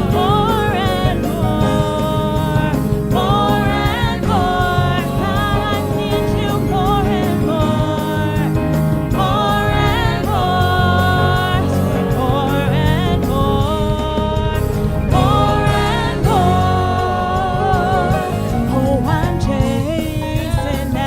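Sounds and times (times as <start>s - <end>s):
instrumental accompaniment: 0.0s - 21.0s
voices singing: 0.0s - 21.0s.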